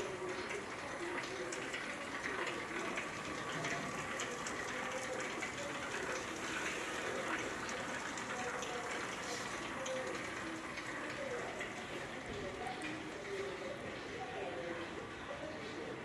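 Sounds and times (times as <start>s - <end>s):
faint voices: 0.0s - 16.0s.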